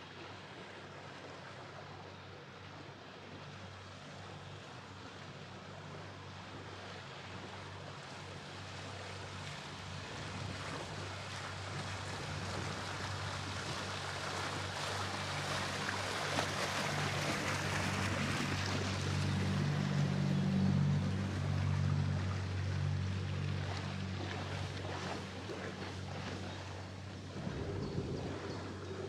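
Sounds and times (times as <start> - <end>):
boat engine droning: 0.0 - 29.0
water rushing: 0.0 - 29.0
wind: 0.0 - 29.0.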